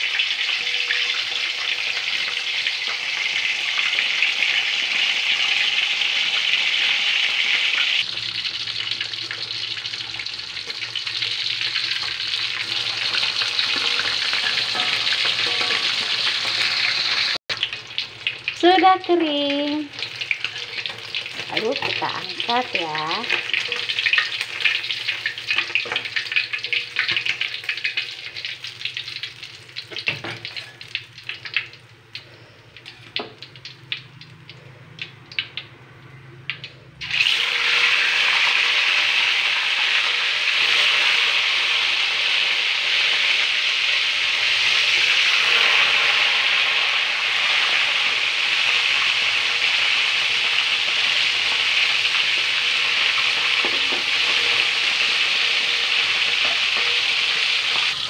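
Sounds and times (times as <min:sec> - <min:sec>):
fish sizzling in hot oil: 0:00.0 - 0:35.7, 0:36.5 - 0:58.0
oil crackling and popping: 0:00.0 - 0:35.8, 0:36.5 - 0:58.0.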